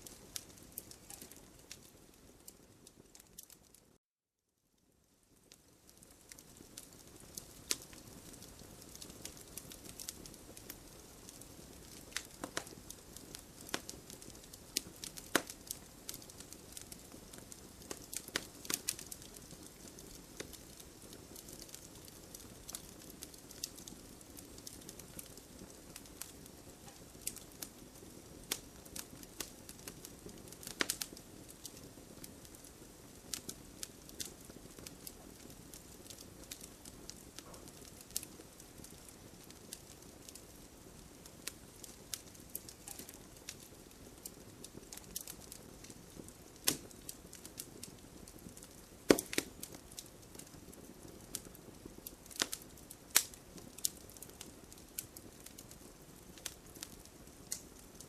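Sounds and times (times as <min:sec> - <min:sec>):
wood fire crackling: 0:00.0 - 0:04.0, 0:04.8 - 0:58.0.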